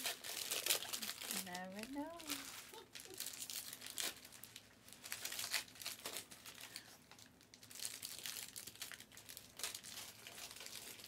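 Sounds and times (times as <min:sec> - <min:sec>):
foil wrappers crinkling: 0:00.0 - 0:11.0.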